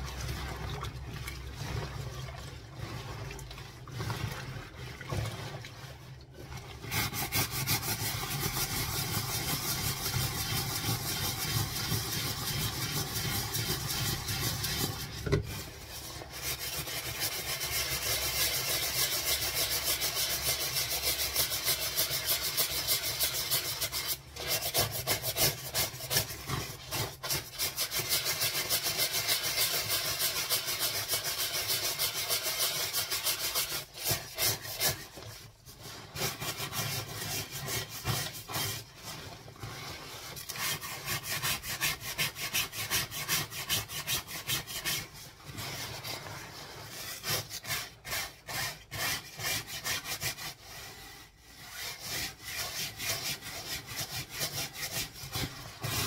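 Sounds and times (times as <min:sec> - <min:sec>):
brush scrubbing a wet jacket: 0:00.0 - 0:56.0.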